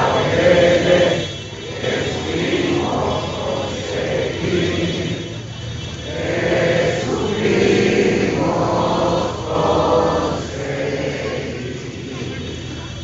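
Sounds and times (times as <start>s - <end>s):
crowd singing in unison: 0.0s - 12.9s
crowd murmur: 0.0s - 13.0s.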